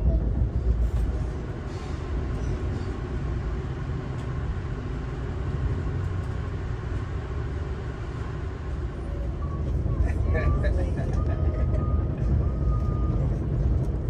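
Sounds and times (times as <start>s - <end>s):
train coach rumble: 0.0s - 14.0s.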